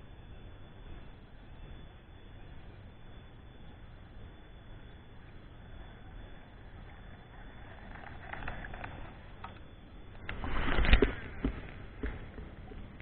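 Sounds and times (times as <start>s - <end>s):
quiet river: 0.0s - 13.0s.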